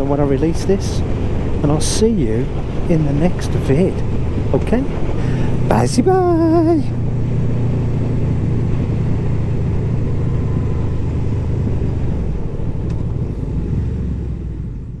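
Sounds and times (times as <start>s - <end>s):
motorcycle engine cruising: 0.0s - 15.0s
wind rush: 0.0s - 15.0s.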